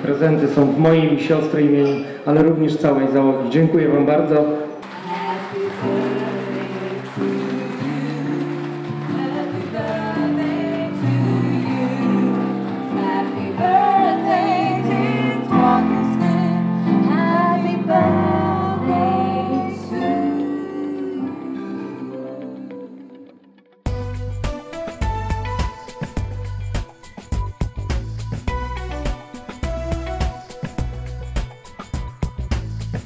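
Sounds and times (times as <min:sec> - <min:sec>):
song with singing over chords: 0:04.6 - 0:33.0.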